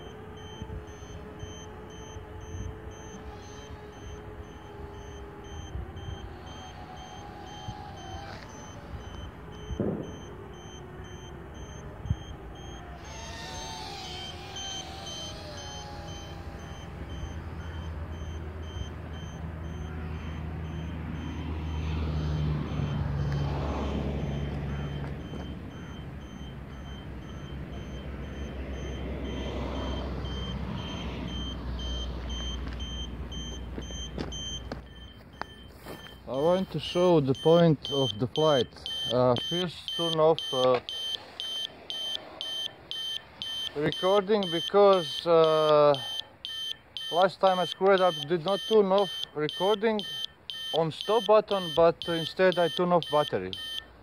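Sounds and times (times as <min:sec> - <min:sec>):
electronic beeping: 0:00.0 - 0:23.6, 0:24.2 - 0:54.0
drone motors whining: 0:00.0 - 0:54.0.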